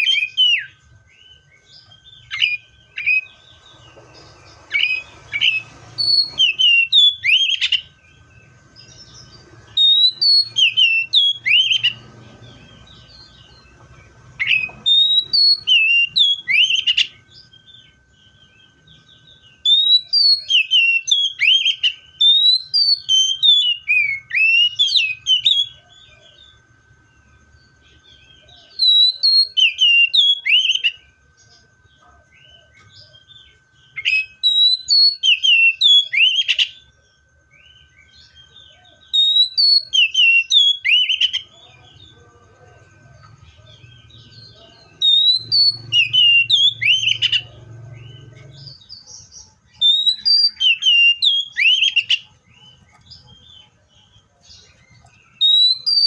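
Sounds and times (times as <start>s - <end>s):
bird singing whistled notes: 0.0s - 56.0s
faint steady tone: 0.0s - 56.0s.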